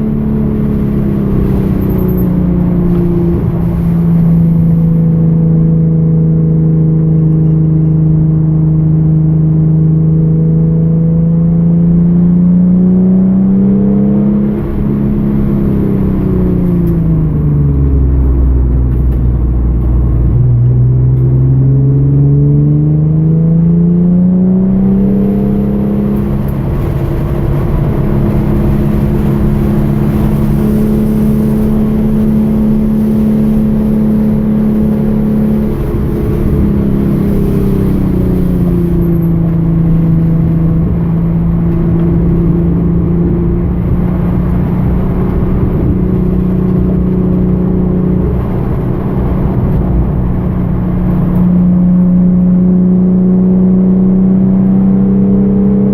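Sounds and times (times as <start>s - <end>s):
car engine accelerating: 0.0s - 55.9s.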